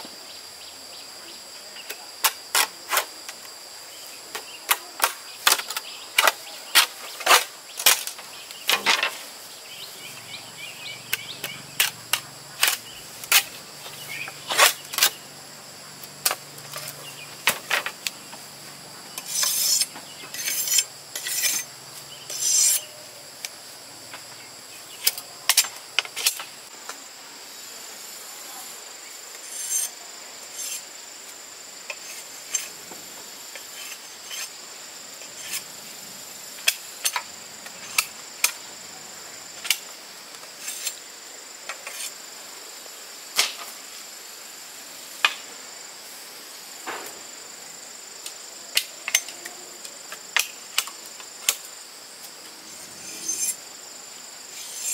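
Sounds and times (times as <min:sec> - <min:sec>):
insect buzzing: 0:00.0 - 0:54.9.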